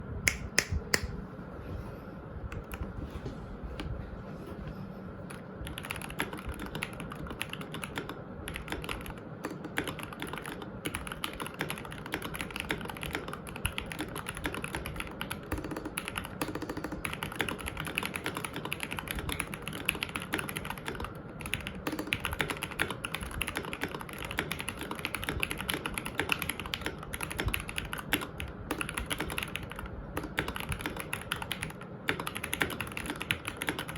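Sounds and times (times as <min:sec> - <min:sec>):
mechanical keyboard typing: 0:05.3 - 0:33.9.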